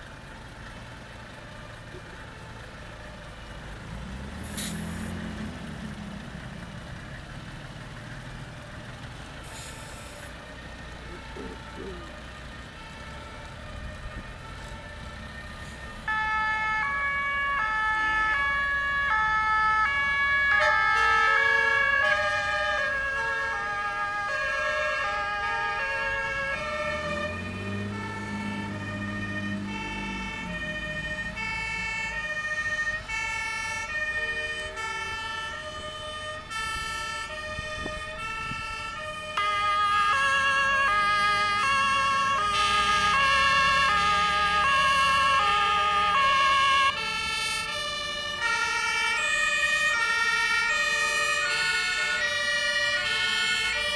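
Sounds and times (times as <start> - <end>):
fire engine two-tone sirens: 0.0 - 53.9
truck engine rumbling past: 0.0 - 53.9.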